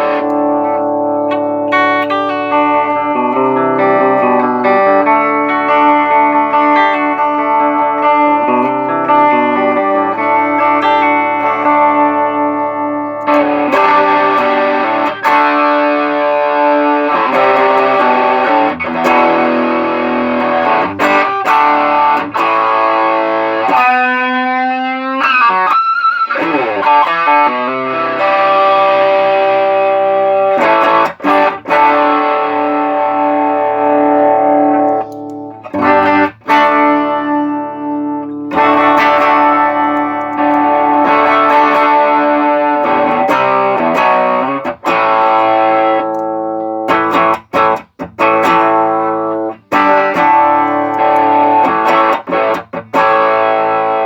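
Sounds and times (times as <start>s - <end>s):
overdriven electric guitar: 0.0s - 54.0s.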